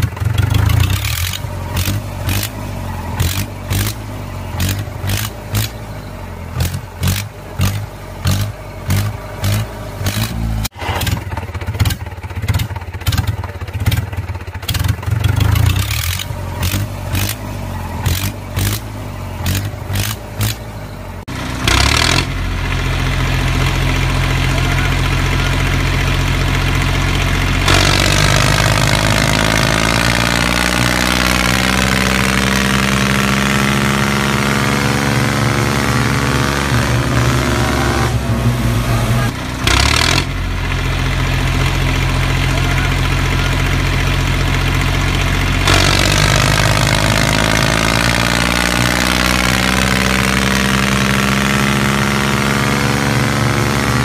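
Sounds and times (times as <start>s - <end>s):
tractor engine revving: 0.0s - 54.0s.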